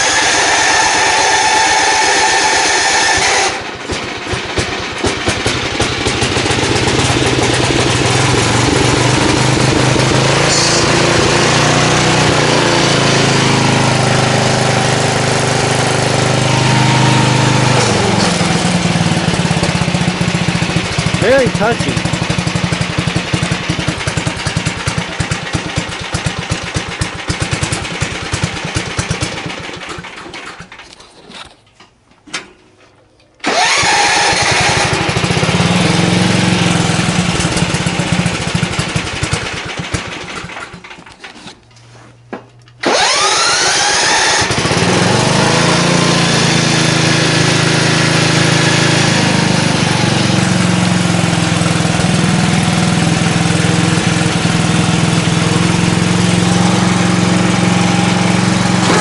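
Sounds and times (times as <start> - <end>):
small lawn-mower engine running: 0.0 - 31.4, 33.4 - 41.5, 42.8 - 59.0.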